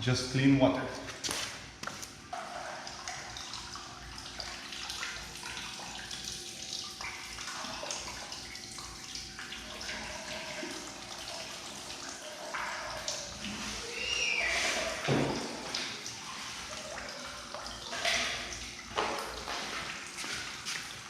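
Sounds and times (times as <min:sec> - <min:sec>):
water running and splashing: 0:01.2 - 0:21.0.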